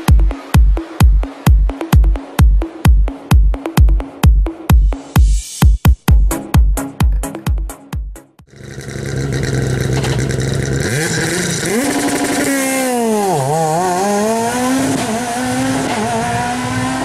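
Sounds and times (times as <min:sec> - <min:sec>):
car engine idling and revving: 0:00.0 - 0:05.1, 0:06.2 - 0:17.0.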